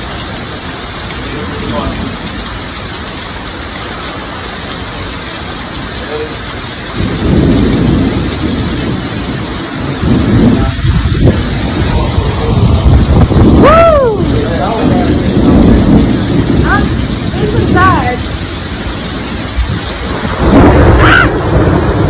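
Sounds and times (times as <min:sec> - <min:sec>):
heavy rain: 0:00.0 - 0:22.0
wind gusts: 0:00.0 - 0:22.0.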